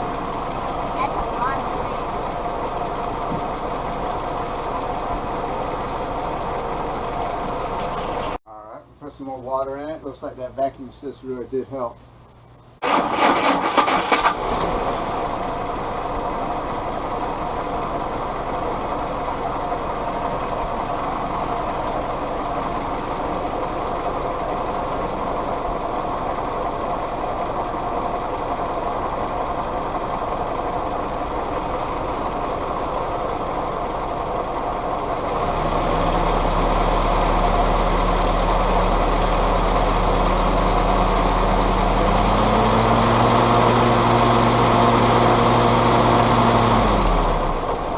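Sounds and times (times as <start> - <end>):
engine starting and running: 0.0 - 8.4, 12.8 - 47.9.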